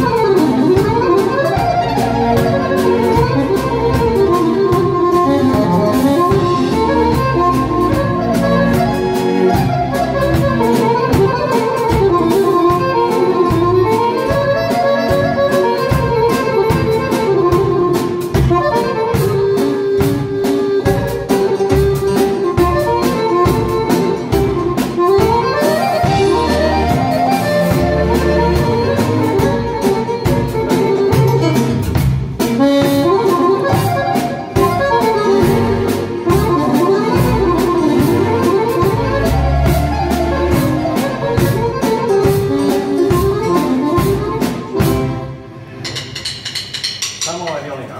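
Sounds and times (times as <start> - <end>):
button accordion playing fast melody: 0.0 - 45.7
steady beat: 0.0 - 47.9.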